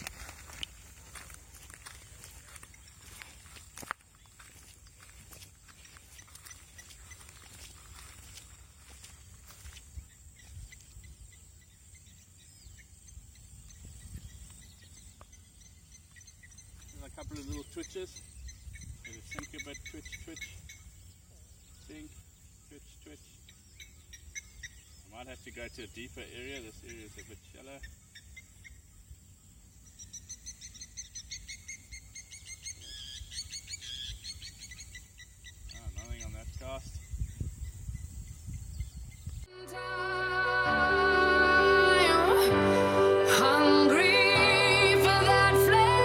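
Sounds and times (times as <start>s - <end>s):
insects chirping: 0.0s - 39.5s.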